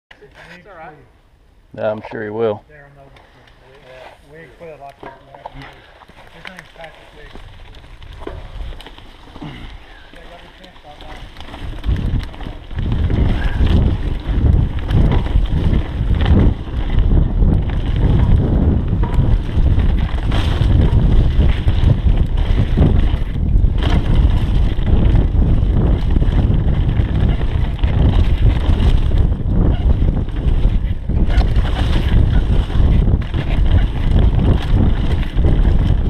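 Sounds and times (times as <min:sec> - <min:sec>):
bike tyres rumbling on dirt: 0:03.7 - 0:36.0
bike knocks and rattles: 0:04.9 - 0:36.0
wind buffeting microphone: 0:06.9 - 0:36.0.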